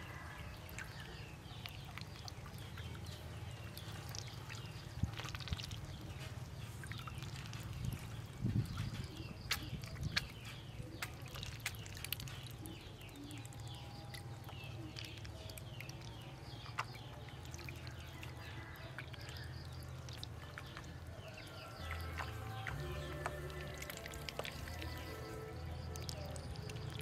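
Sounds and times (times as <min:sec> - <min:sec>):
ducklings peeping: 0:00.0 - 0:27.0
low steady hum: 0:00.0 - 0:27.0
small water splashes: 0:00.0 - 0:27.0.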